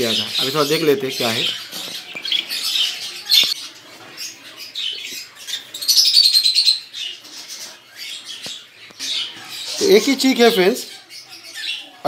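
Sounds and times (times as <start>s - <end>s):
birds buzzing chatter: 0.0s - 12.0s
birds chirping: 0.0s - 12.0s.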